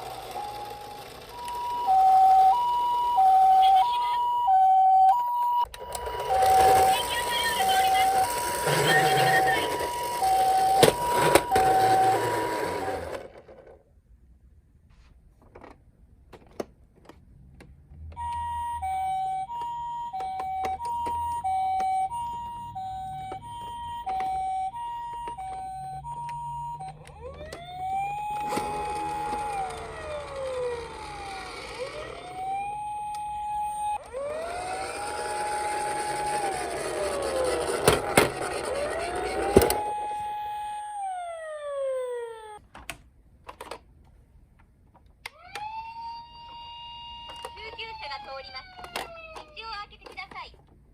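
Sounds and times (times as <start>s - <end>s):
wailing siren: 0.0s - 13.2s, 18.2s - 42.6s, 45.3s - 49.6s
toy two-tone siren: 0.0s - 13.3s, 18.2s - 42.6s, 45.2s - 49.7s.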